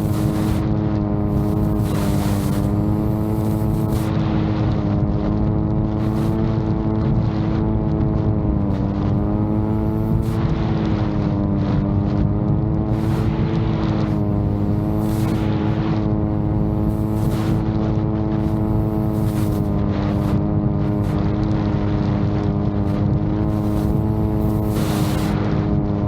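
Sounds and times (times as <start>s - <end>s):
drone propellers humming: 0.0s - 26.0s.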